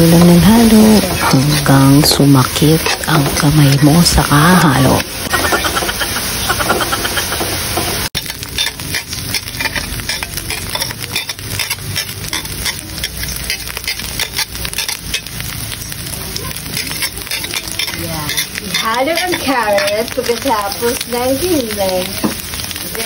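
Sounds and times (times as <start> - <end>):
meat sizzling in a wok: 0.0 - 23.0
metal spoon scraping a pan: 0.1 - 6.0, 6.7 - 22.4.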